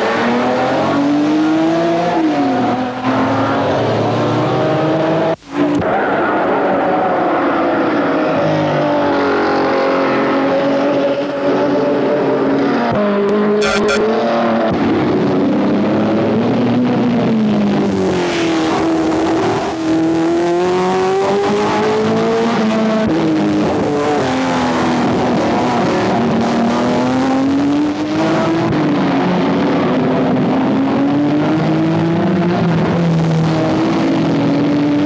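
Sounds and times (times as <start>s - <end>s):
sports car engines revving: 0.0s - 35.0s.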